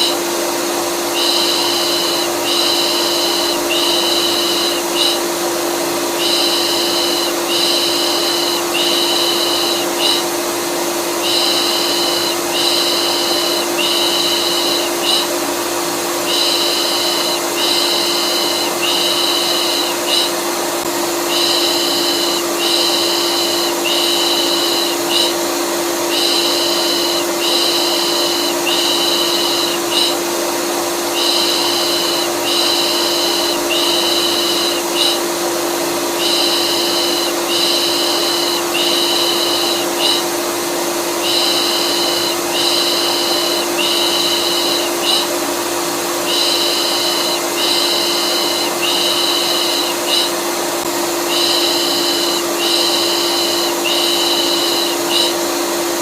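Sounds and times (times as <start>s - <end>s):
vacuum cleaner humming: 0.0s - 56.0s.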